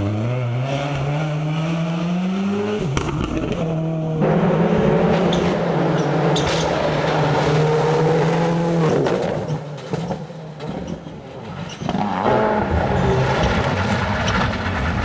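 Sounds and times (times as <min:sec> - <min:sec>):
rally car engine passing: 0:00.0 - 0:10.7, 0:11.3 - 0:15.0
rally car engine running hard: 0:00.0 - 0:10.9, 0:11.9 - 0:15.0.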